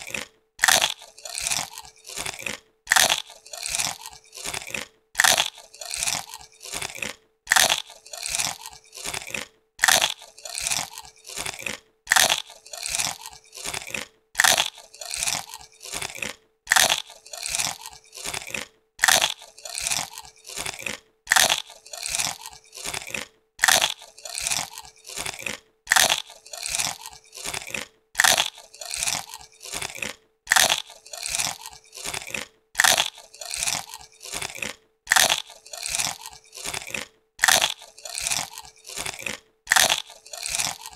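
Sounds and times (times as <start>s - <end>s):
chips being bitten and chewed: 0.0s - 40.9s.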